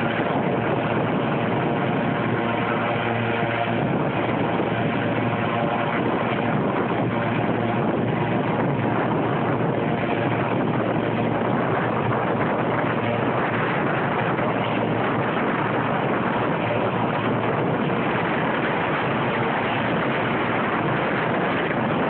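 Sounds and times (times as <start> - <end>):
helicopter engine and rotors running: 0.0 - 22.0.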